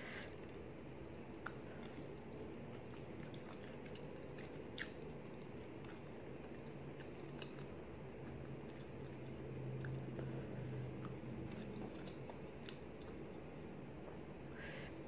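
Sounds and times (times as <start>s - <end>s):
steady low hum: 0.0s - 15.0s
person chewing food: 0.4s - 14.6s.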